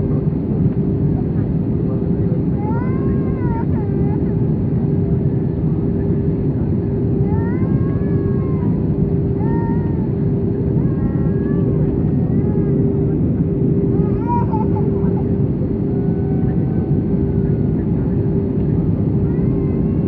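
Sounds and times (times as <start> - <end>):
airplane cabin noise: 0.0 - 20.0
constant hum: 0.0 - 20.0.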